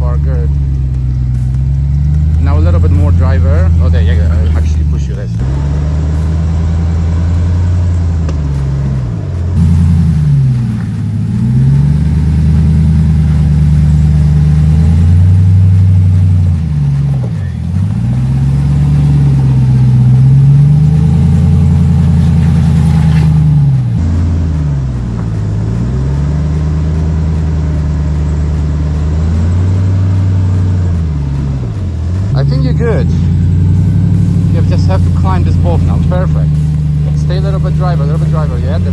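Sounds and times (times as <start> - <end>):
truck engine under throttle: 0.0 - 38.9.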